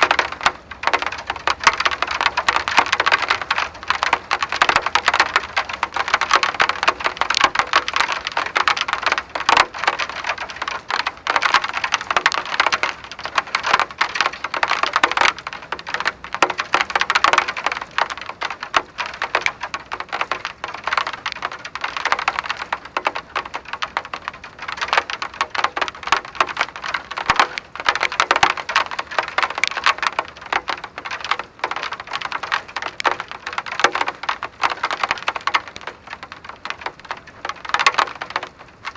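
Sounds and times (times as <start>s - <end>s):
rain pattering on hard surface: 0.0s - 38.9s.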